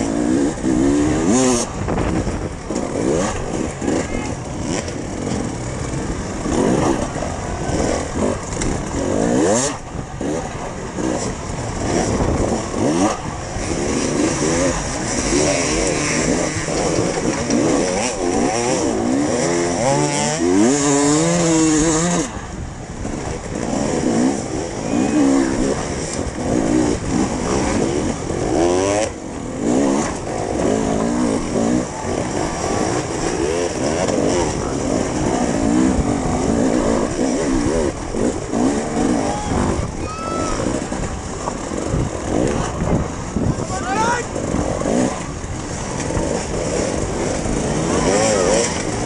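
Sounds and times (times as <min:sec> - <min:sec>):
dirt bike engines revving: 0:00.0 - 0:49.0
motorcycle engine revving: 0:00.0 - 0:49.0.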